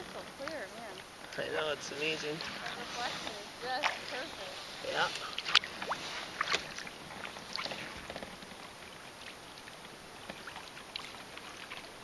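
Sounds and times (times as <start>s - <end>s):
paddle splashes and drips: 0.0s - 12.0s.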